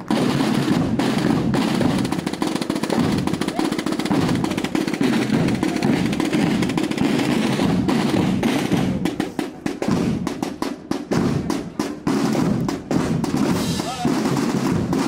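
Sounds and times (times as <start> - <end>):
bass drum: 0.0 - 15.0
snare drum rolls: 0.0 - 15.0.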